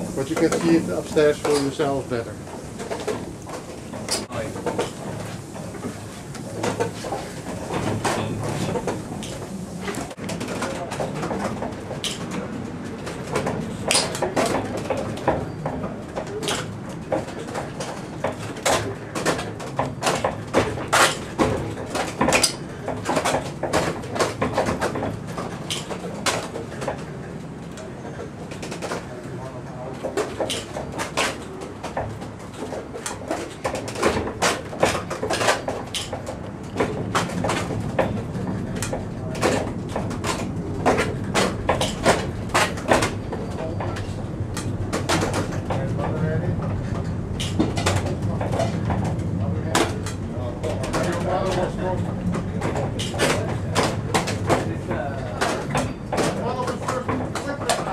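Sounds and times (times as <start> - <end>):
wooden machinery knocking and clacking: 0.2 - 57.9.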